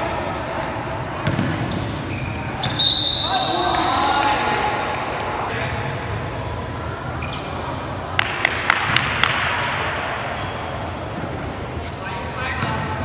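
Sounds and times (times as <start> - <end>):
basketball game in gym: 0.0 - 13.0.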